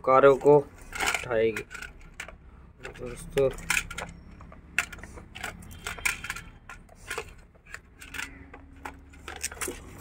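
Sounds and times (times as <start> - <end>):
plastic toys clicking and clattering: 0.0 - 10.0.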